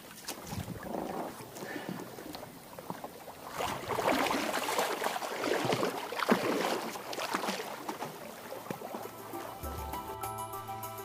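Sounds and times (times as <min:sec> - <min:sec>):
water sloshing and splashing: 0:00.0 - 0:09.7.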